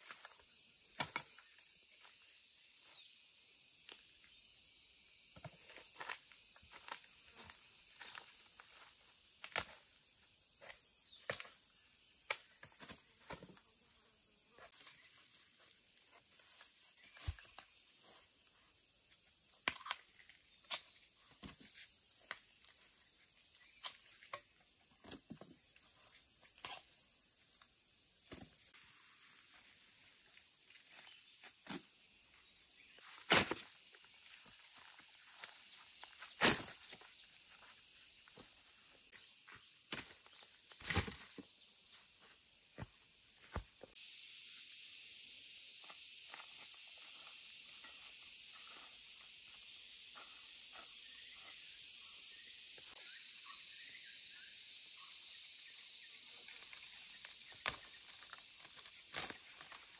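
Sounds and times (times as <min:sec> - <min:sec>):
high insect buzz: 0:00.0 - 0:59.9.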